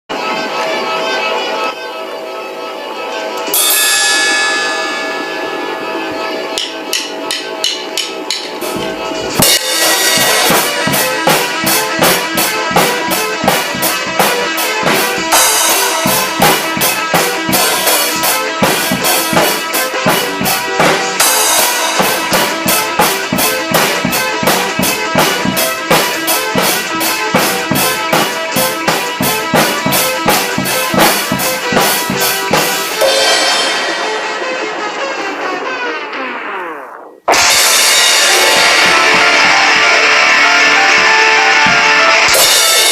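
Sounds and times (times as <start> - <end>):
backing song: 3.3 - 42.9
drum kit beat: 3.4 - 35.6, 37.2 - 42.9.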